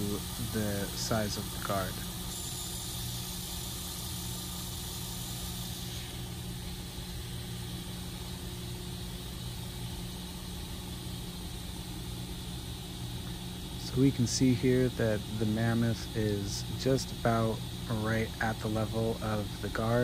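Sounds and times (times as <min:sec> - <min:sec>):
grinding hiss: 0:00.0 - 0:20.0.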